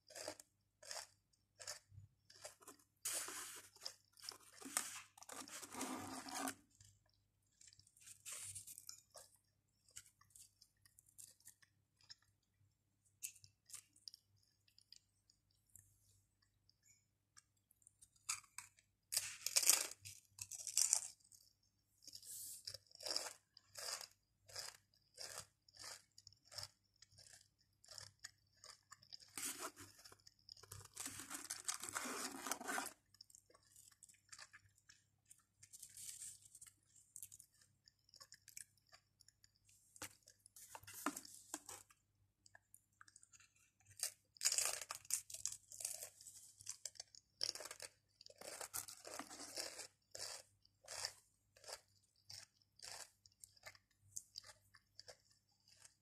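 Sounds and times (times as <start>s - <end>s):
crunching and chewing crisps: 0.0s - 12.6s, 13.2s - 15.5s, 17.8s - 56.0s.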